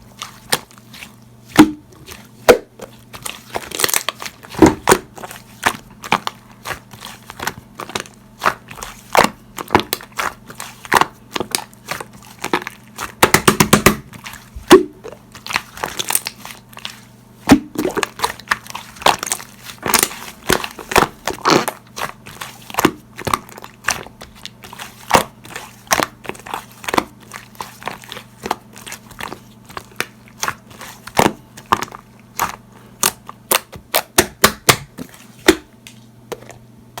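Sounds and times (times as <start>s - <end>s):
slime squishing and popping: 0.3s - 35.7s.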